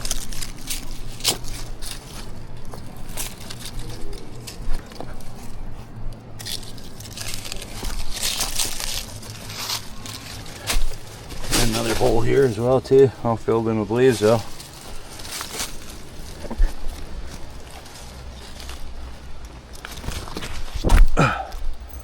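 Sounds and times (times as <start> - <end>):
footsteps crunching through dry leaves: 0.0 - 21.4.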